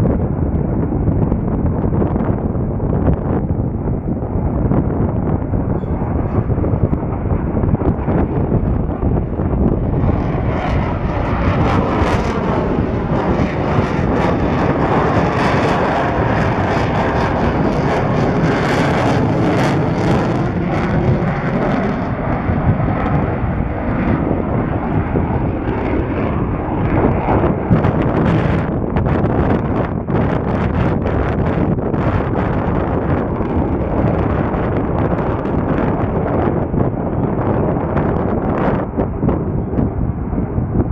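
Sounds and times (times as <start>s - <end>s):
jet engines crackling flyby: 0.0s - 40.9s.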